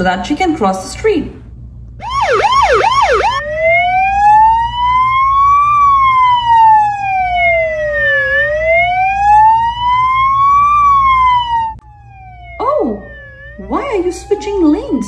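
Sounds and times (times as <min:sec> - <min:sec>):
emergency siren wail: 0:02.0 - 0:15.0.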